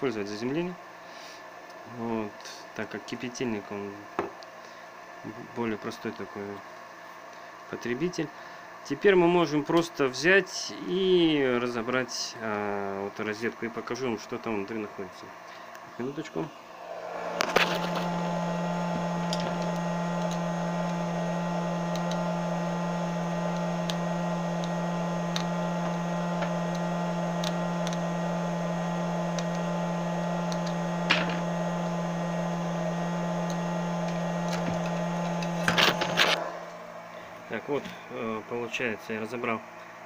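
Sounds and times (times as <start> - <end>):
electrical buzzing hum: 0.0 - 40.0.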